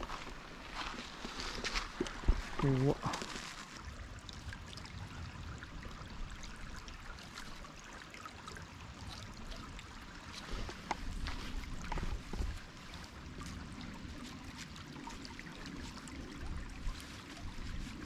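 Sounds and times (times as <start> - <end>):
stream trickling over stones: 0.0 - 18.0.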